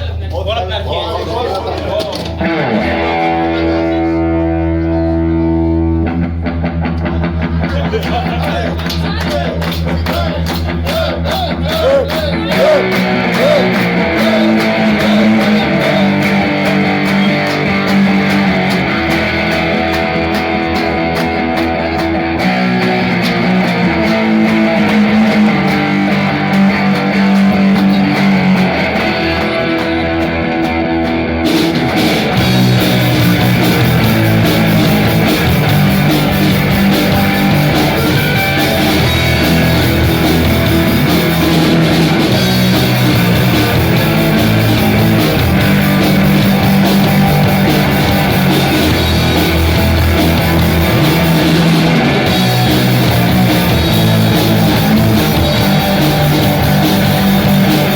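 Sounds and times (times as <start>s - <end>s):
live rock band playing: 1.9s - 57.9s.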